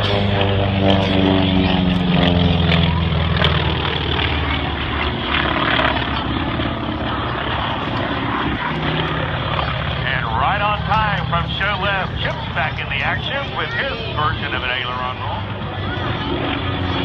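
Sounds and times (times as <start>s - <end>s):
propeller airplane engine droning: 0.0s - 17.0s.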